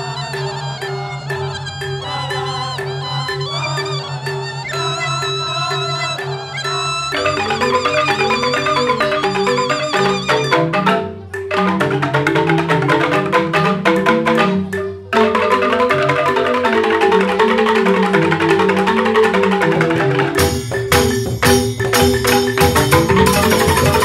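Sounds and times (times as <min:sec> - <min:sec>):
gamelan ensemble playing: 0:00.0 - 0:24.0.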